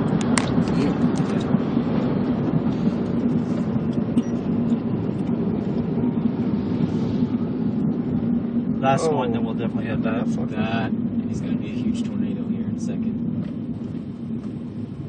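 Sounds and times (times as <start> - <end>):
car driving at speed: 0.0 - 15.0.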